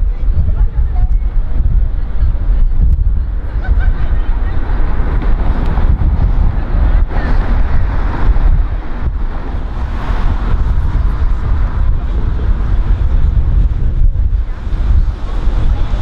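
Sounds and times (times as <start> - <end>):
road traffic: 0.0 - 16.0
wind buffeting microphone: 0.0 - 16.0.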